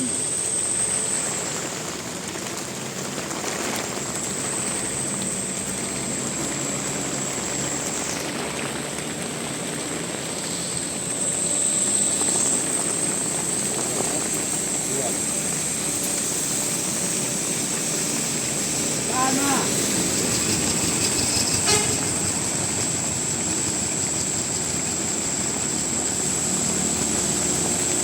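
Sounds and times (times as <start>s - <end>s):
thin high whine: 0.0s - 2.0s, 3.7s - 28.0s
vehicle engine and road noise: 0.0s - 28.0s.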